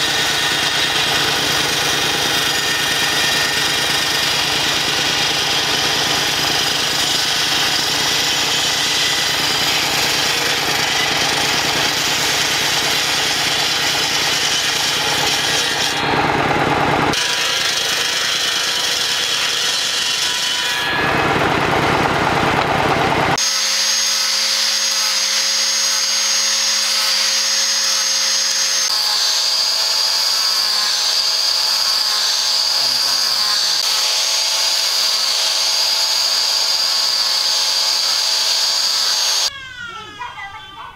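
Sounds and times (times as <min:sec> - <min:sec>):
angle grinder sanding whine: 0:00.0 - 0:39.5
table saw cutting wood: 0:00.0 - 0:39.5.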